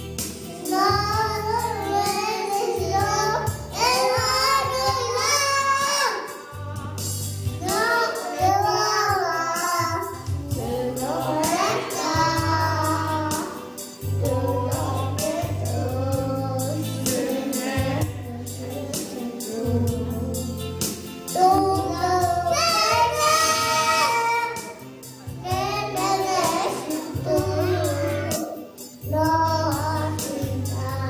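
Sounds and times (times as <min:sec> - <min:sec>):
instrumental accompaniment with bass: 0:00.0 - 0:31.0
girls singing into microphones: 0:00.5 - 0:20.6, 0:21.3 - 0:24.6, 0:25.4 - 0:31.0.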